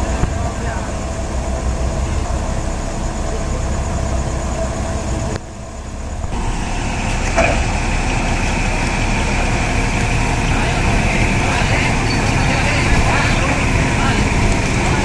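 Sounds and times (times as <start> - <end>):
diesel forklift engines running: 0.0 - 15.0
high whine: 0.0 - 15.0.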